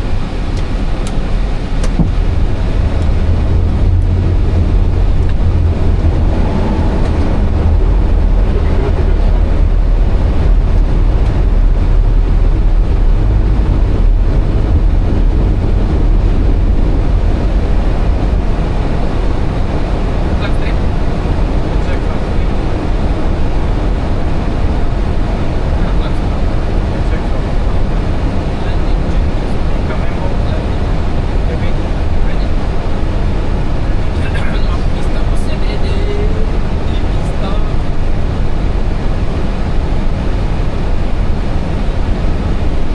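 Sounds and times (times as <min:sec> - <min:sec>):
cockpit airflow and engine rumble: 0:00.0 - 0:42.9.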